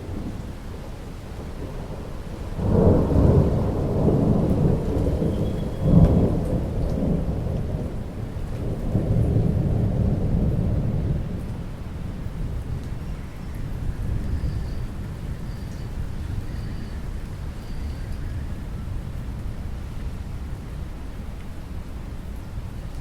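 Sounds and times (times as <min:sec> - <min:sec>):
thunder rumbling: 0:00.0 - 0:19.5
rain falling: 0:00.0 - 0:23.0.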